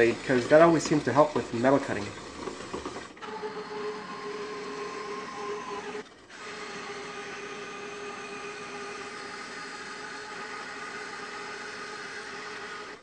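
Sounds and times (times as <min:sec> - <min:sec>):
bandsaw cutting steel: 0:00.0 - 0:13.0.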